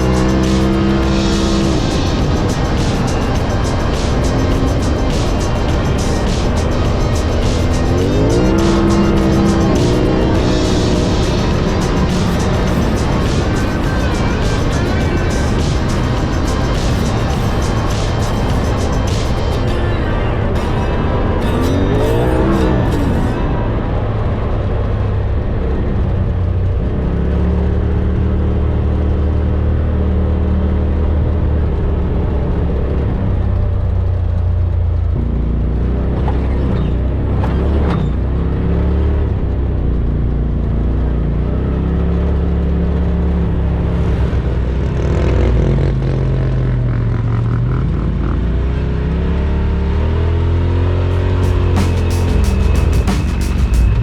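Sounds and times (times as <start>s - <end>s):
utility vehicle engine revving: 0.0s - 54.0s.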